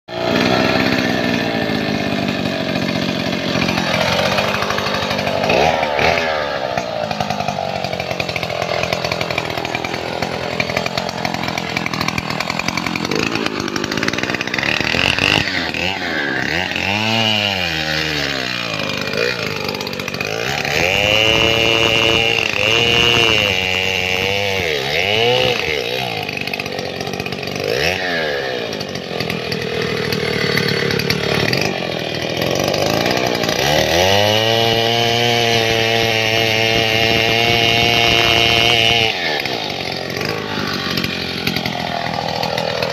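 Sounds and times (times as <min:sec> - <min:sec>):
chainsaw cutting wood: 0:00.1 - 0:42.9
chainsaw revving and idling: 0:00.1 - 0:42.9.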